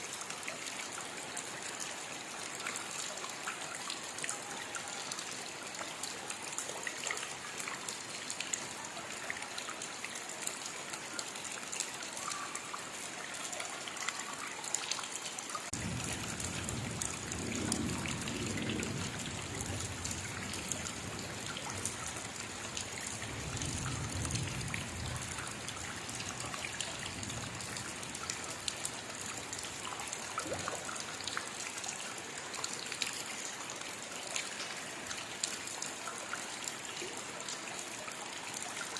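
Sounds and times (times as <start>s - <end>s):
rain dripping and trickling: 0.0s - 38.9s.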